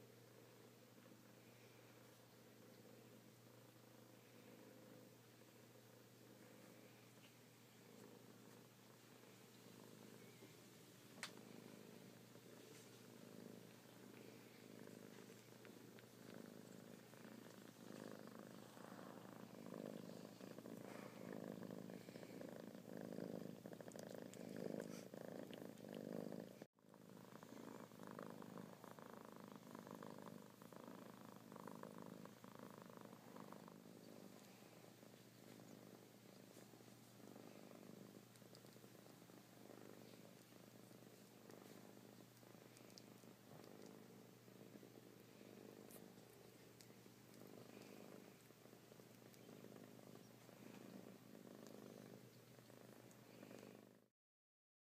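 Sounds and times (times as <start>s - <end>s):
cat purring: 0.0s - 54.1s.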